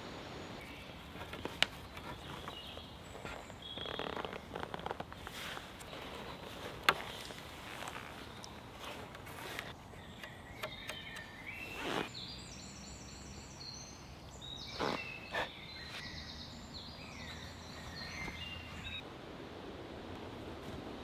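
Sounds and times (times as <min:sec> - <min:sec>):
songbird singing: 0:00.0 - 0:19.1
steady background hiss: 0:00.0 - 0:21.0.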